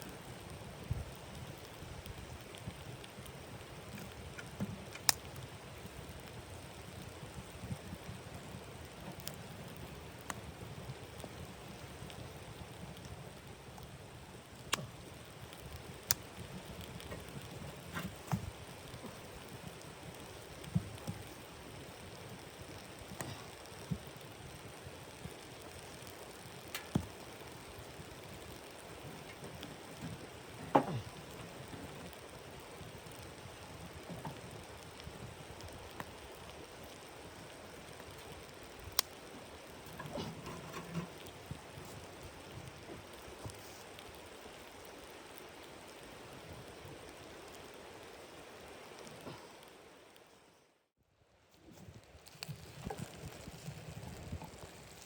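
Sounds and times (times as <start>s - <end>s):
wood fire crackling: 0.0s - 50.6s, 51.4s - 55.0s.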